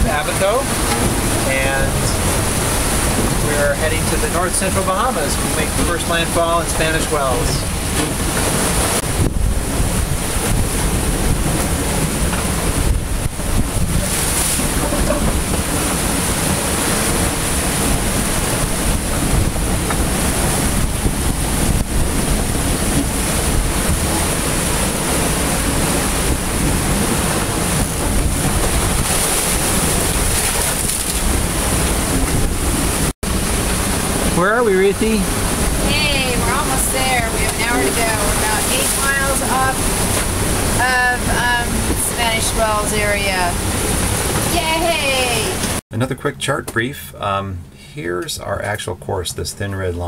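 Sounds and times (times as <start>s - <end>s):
wind buffeting microphone: 0.0s - 34.4s, 35.0s - 45.8s
waves rushing along boat hull: 0.0s - 45.8s.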